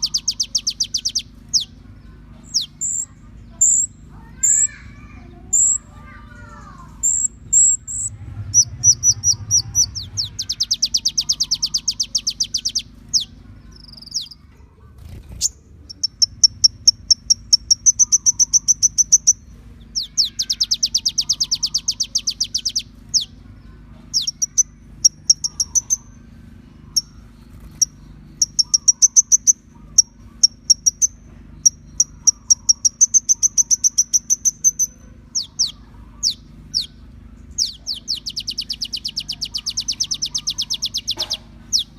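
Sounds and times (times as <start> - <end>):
sunbird singing fast trills: 0.0 - 14.5, 15.1 - 41.9
low steady hum: 0.0 - 41.9.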